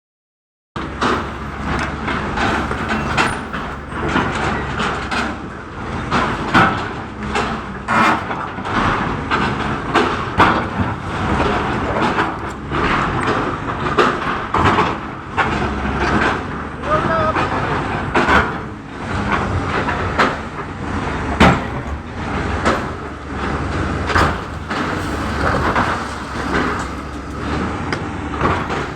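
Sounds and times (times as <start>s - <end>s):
diesel engine running: 0.8s - 28.9s
digger clanks and scrapes: 0.8s - 28.9s.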